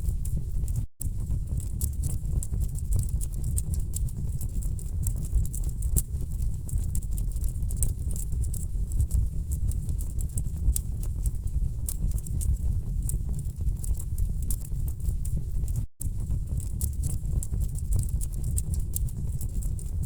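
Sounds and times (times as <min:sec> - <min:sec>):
low rumble of fire: 0:00.0 - 0:20.0.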